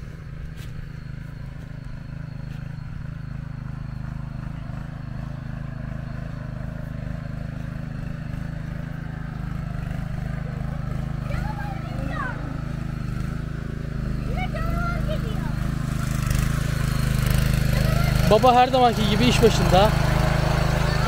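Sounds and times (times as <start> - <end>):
walking tractor engine running: 0.0 - 21.0.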